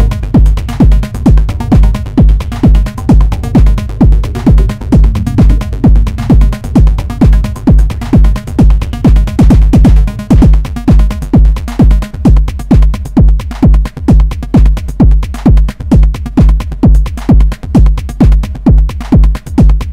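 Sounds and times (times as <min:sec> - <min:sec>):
synth bass line: 0:00.0 - 0:19.0
deep kick drum: 0:00.0 - 0:19.9
ticking hi-hat percussion: 0:00.0 - 0:19.9.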